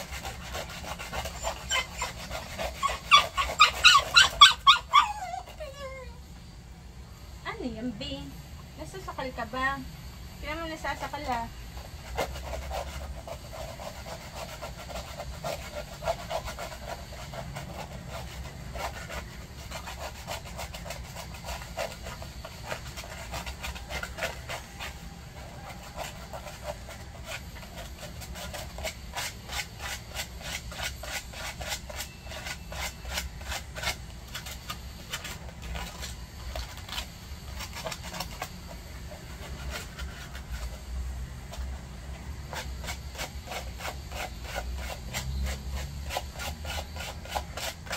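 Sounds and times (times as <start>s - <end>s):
nail file filing claws: 0.0s - 6.0s, 10.5s - 41.7s, 42.3s - 47.9s
steady low hum: 0.0s - 47.9s.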